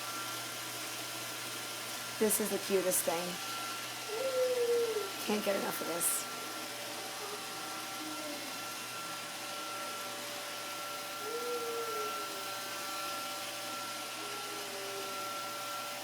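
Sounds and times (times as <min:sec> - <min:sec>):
robot vacuum whirring hum: 0:00.0 - 0:16.0.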